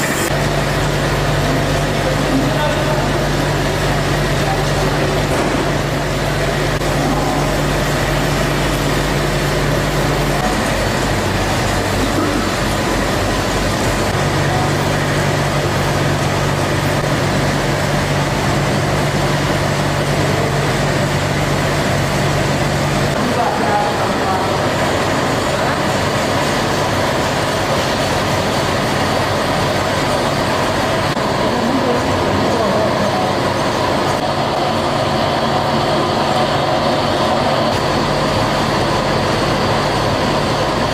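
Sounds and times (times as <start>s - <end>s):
machine running with low hum: 0.0s - 40.9s.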